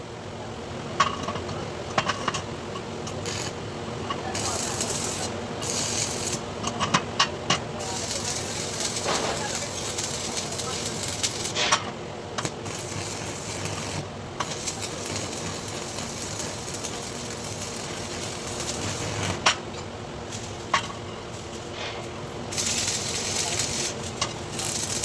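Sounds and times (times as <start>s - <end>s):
arc welding crackling hiss: 3.0s - 6.9s, 7.7s - 25.0s.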